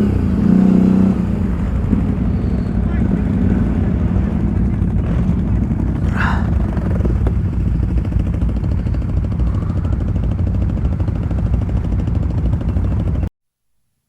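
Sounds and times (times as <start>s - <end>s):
atv engine under load: 0.0s - 13.3s.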